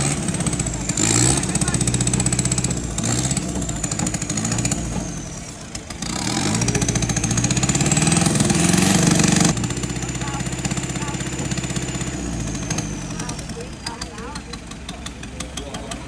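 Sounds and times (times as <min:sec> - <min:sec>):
pickup engine revving: 0:00.0 - 0:16.0.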